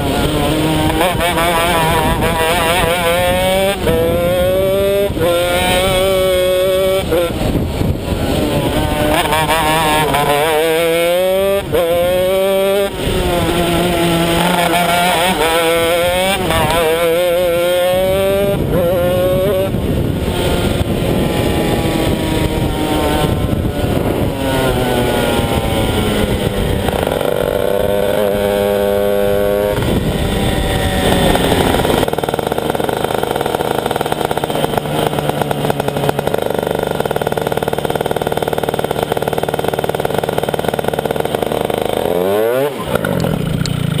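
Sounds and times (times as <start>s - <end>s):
kart engine revving: 0.0s - 44.0s.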